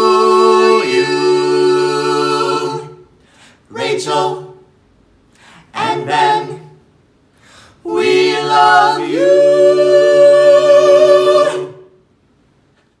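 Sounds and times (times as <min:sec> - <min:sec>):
a cappella harmony singing: 0:00.0 - 0:04.8, 0:05.4 - 0:06.9, 0:07.5 - 0:12.0.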